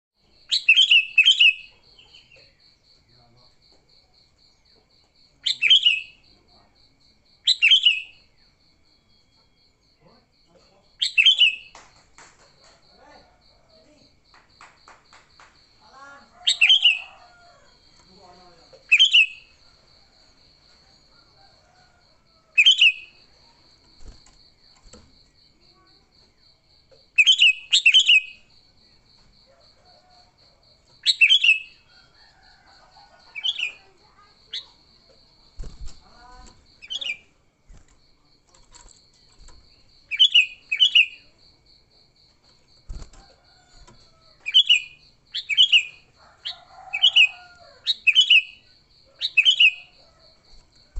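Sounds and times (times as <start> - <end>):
insect trill: 0.2 - 50.9.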